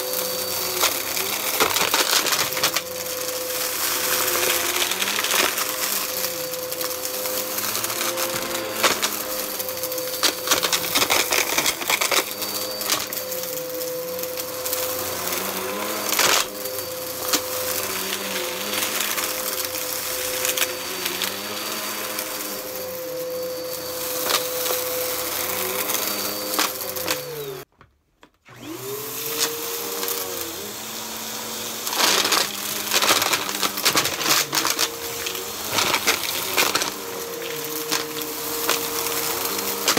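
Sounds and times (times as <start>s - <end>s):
vacuum cleaner on carpet: 0.0s - 27.7s, 28.4s - 39.9s.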